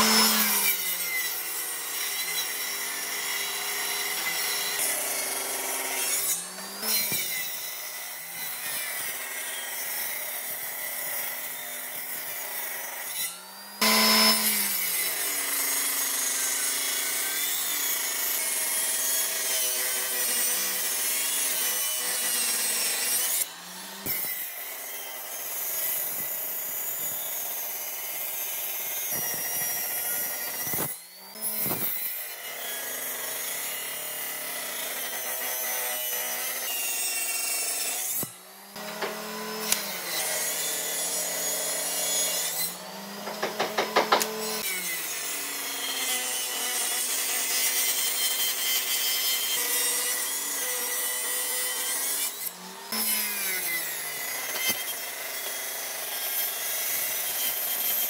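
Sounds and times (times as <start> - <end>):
table saw cutting timber: 0.0 - 58.0.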